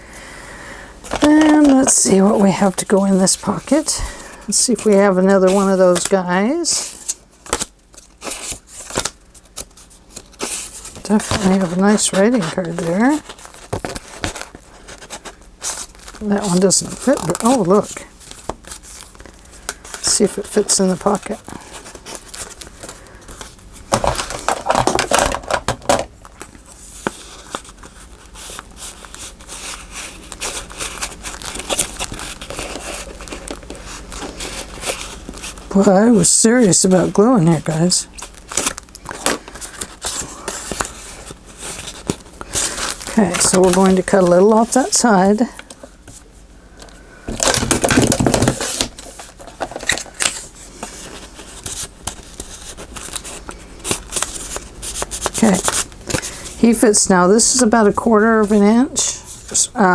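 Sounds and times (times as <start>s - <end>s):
paper rustling and crinkling: 1.0s - 59.9s.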